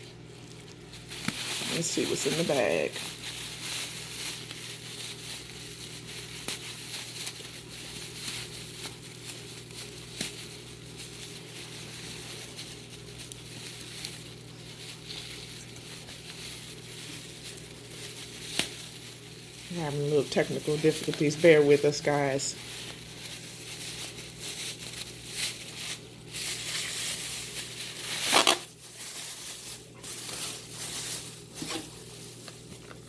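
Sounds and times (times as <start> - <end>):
steady low hum: 0.0 - 33.0
plastic bags crinkling: 0.1 - 33.0.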